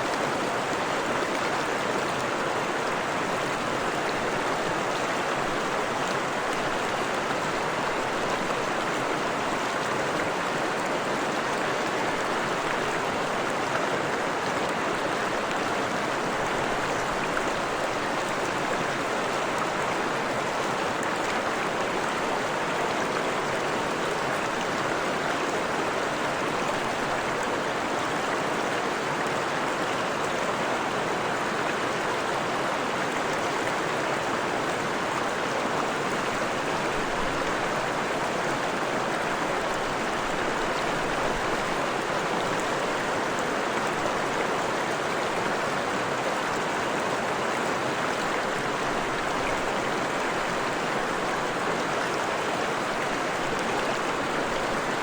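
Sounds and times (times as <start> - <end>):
stream rushing and babbling: 0.0 - 55.0.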